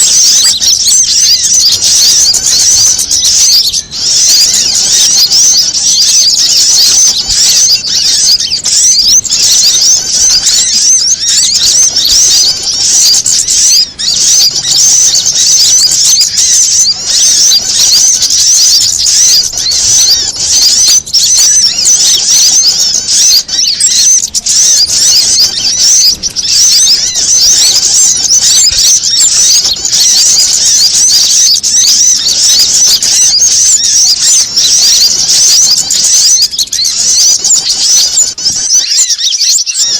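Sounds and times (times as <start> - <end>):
small birds chattering and twittering: 0.0 - 39.9.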